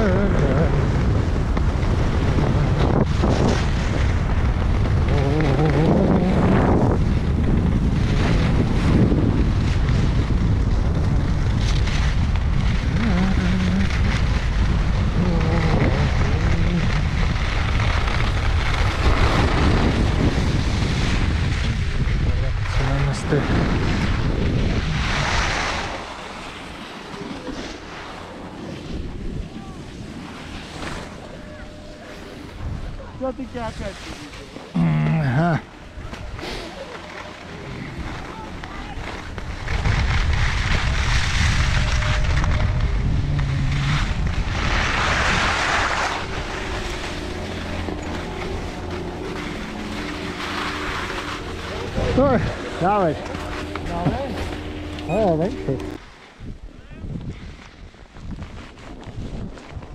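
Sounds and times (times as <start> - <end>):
wind buffeting microphone: 0.0 - 26.2, 37.4 - 59.9.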